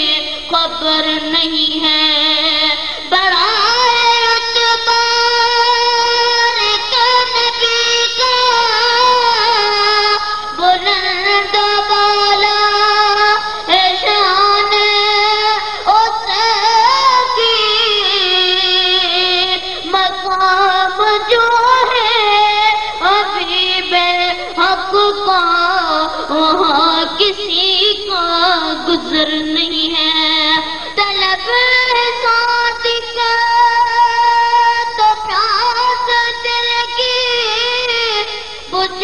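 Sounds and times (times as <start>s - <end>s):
boy singing into microphone: 0.0s - 39.0s.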